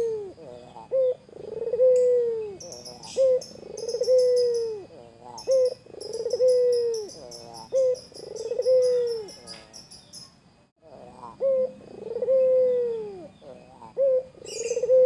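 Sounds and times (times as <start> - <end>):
dove cooing: 0.0 - 9.8, 10.8 - 15.0
small birds chirping: 0.0 - 15.0.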